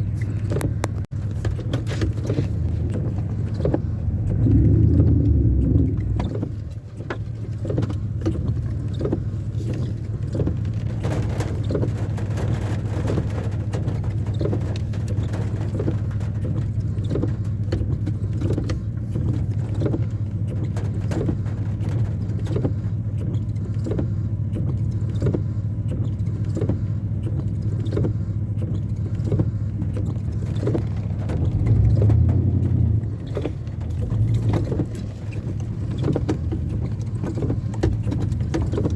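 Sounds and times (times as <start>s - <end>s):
engine humming steadily: 0.0s - 38.9s
light regular ticking: 2.2s - 38.9s.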